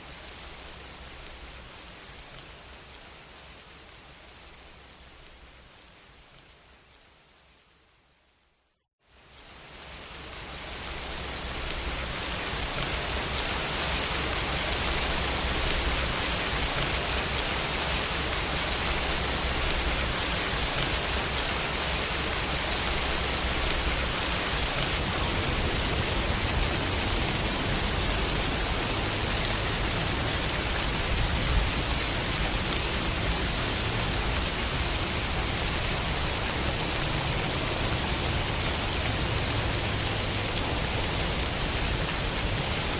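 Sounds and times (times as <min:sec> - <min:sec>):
heavy rain falling: 0:00.0 - 0:06.6, 0:09.3 - 0:42.9.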